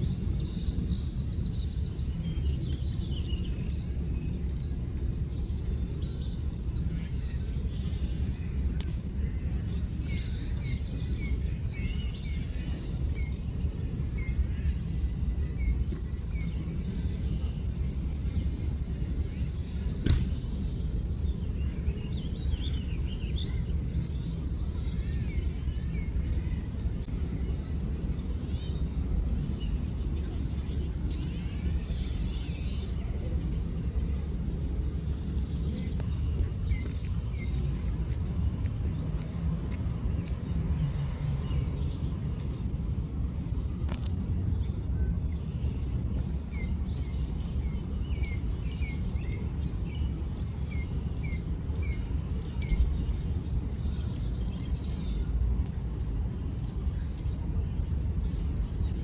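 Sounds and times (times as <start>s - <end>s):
birds chirping: 0.0s - 55.4s
low rumble: 0.0s - 59.0s.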